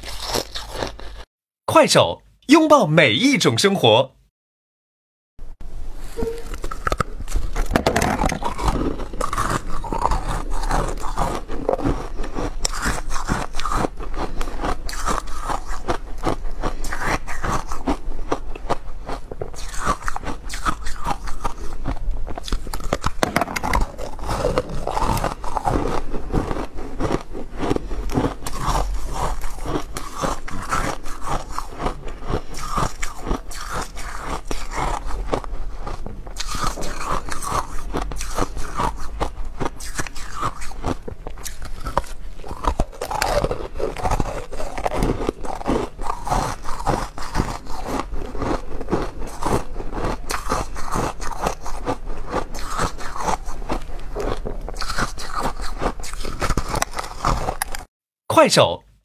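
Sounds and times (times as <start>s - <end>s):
person crunching ice balls: 0.0s - 1.3s, 6.6s - 57.9s.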